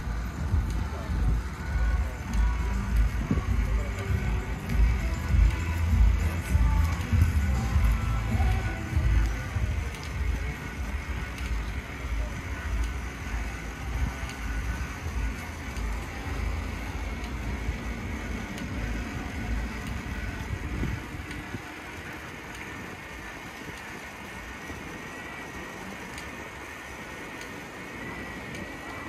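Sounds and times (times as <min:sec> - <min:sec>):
bicycle riding on pavement: 0:00.0 - 0:29.0
faint high whine: 0:00.0 - 0:29.0
wind buffeting microphone: 0:00.0 - 0:29.0.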